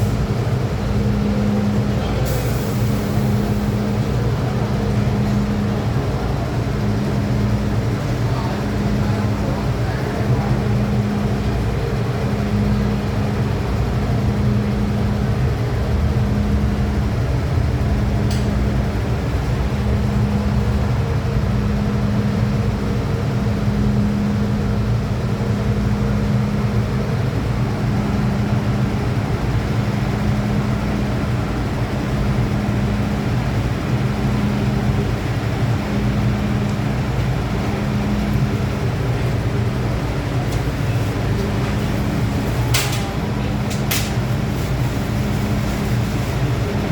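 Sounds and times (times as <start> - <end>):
train hum and rumble: 0.0 - 46.9.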